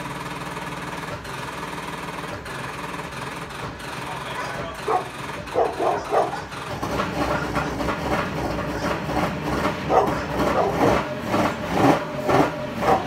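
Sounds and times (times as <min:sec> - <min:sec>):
personal watercraft engine running unevenly: 0:00.0 - 0:13.0.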